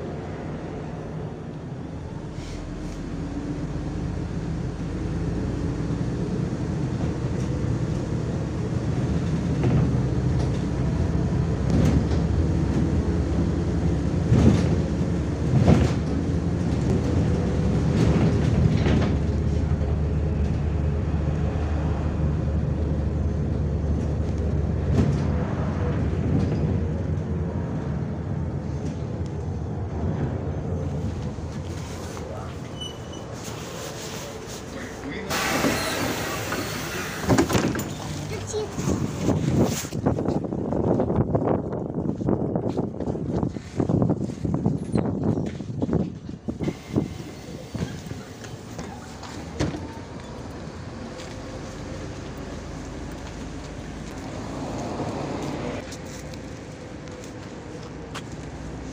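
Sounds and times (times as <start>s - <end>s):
bus diesel engine: 0.0s - 58.9s
road rumble: 0.0s - 58.9s
bus body rattling: 1.2s - 54.4s.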